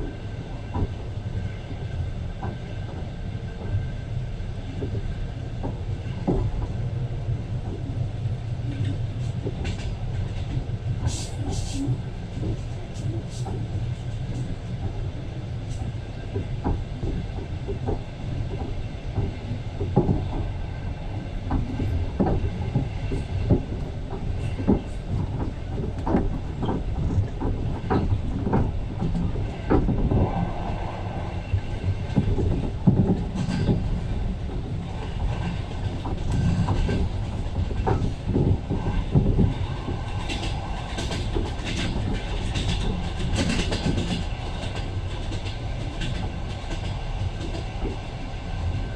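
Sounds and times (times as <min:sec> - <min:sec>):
train rumbling inside carriage: 0:00.0 - 0:48.9.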